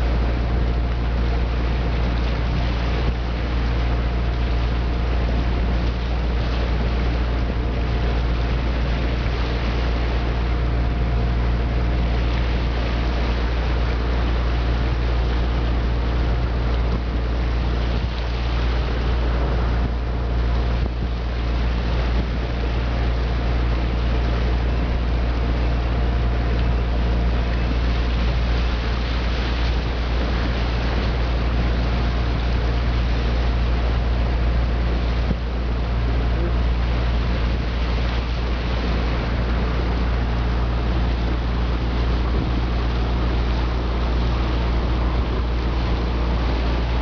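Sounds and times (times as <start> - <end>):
motorboat engine humming: 0.0 - 47.0
water rushing: 0.0 - 47.0
wind: 0.0 - 47.0.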